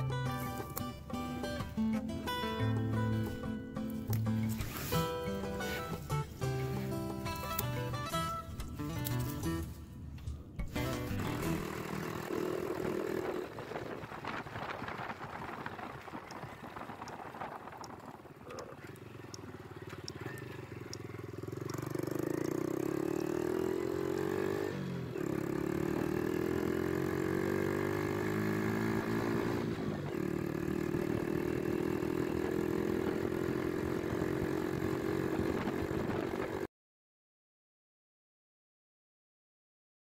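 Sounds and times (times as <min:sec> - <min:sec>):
motorcycle engine accelerating: 0:00.0 - 0:36.7.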